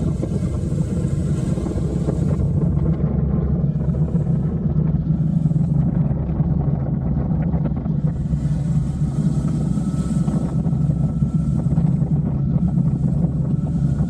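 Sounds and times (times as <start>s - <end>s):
motorcycle engine and road noise: 0.0s - 14.0s
wind hissing over microphone: 0.0s - 14.0s.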